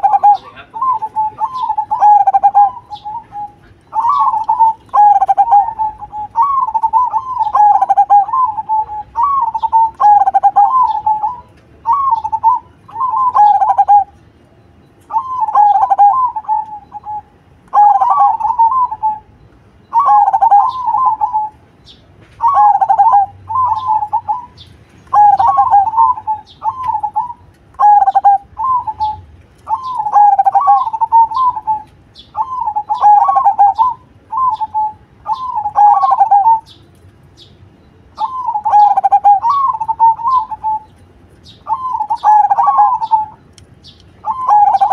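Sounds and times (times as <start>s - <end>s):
dove cooing: 0.0s - 14.2s, 15.0s - 21.7s, 22.3s - 36.8s, 38.2s - 41.0s, 41.6s - 43.5s, 44.2s - 44.9s.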